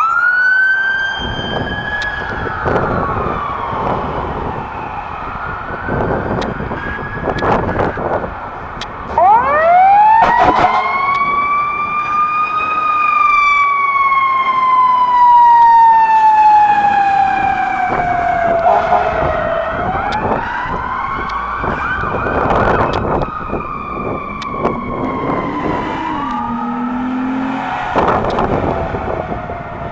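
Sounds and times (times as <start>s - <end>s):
police car siren wailing: 0.0s - 29.9s.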